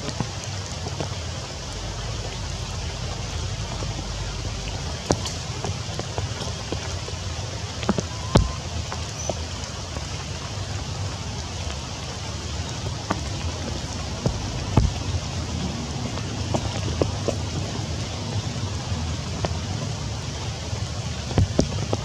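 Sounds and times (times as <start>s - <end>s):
rain on foliage: 0.0s - 22.0s.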